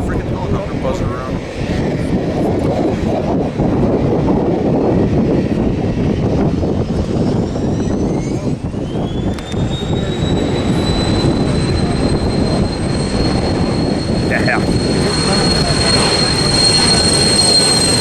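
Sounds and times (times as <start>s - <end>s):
high jet whine: 0.0s - 18.0s
jet engine roar: 0.0s - 18.0s.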